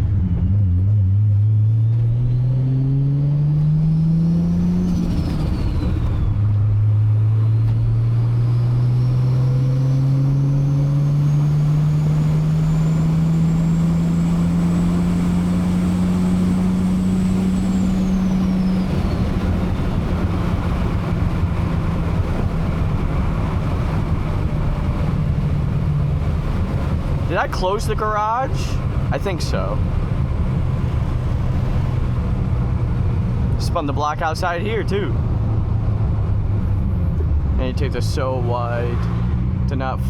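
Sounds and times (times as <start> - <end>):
car engine accelerating: 0.0 - 40.0
road and drivetrain rush: 0.0 - 40.0
turbo whine: 3.9 - 40.0.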